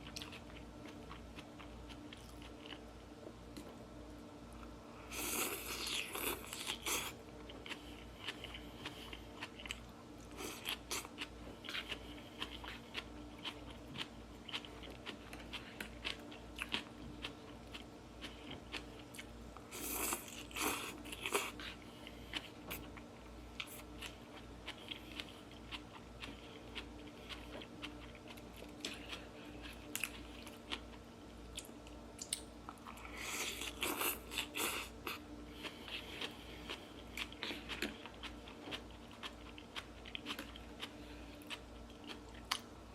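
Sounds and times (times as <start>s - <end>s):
person chewing: 0.0s - 3.7s, 4.6s - 42.9s.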